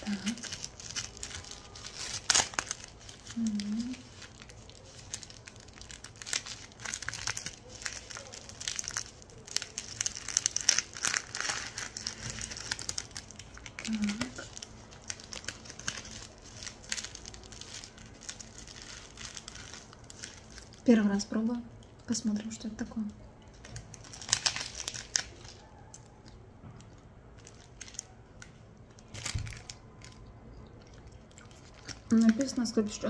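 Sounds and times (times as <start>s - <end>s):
plastic wrapper crinkling: 0.0s - 33.0s.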